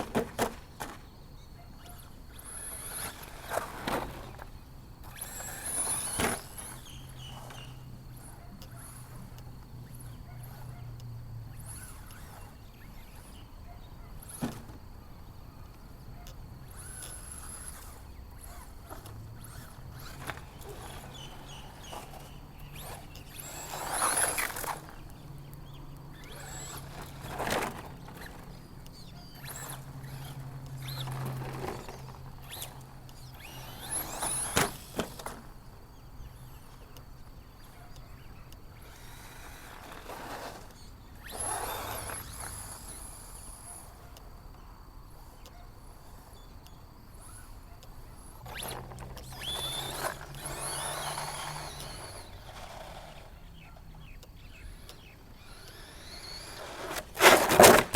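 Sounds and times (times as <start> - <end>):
electric motor whining: 0.0 - 44.4, 45.1 - 57.9.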